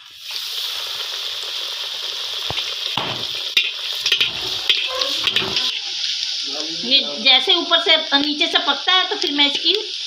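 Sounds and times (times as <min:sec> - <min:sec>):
bread sizzling in hot ghee: 0:00.0 - 0:10.0.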